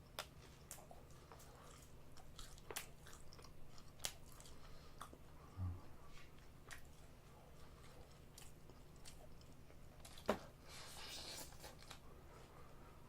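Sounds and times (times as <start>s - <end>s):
chewing fried chicken: 0.0s - 13.0s.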